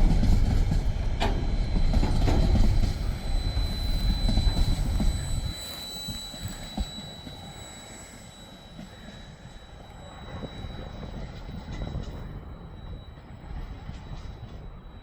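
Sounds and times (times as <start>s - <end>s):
freight train rumbling: 0.0s - 15.0s
high-pitched whine: 0.5s - 15.0s.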